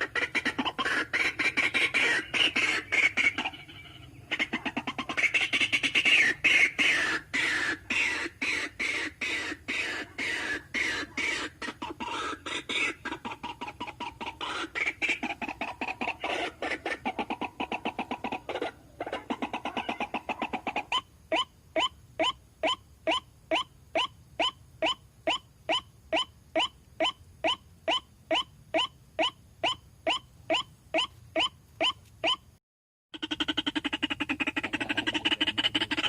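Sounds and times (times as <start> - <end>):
waterhens calling harshly: 0.0 - 32.4, 33.2 - 36.0.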